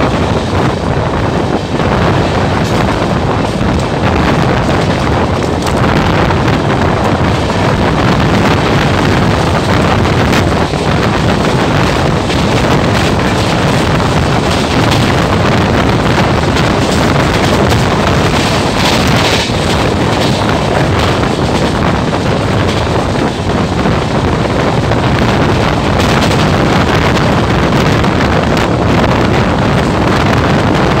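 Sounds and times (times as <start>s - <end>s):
train coaches rumbling on rails: 0.0s - 31.0s
wind rushing over microphone: 0.0s - 31.0s.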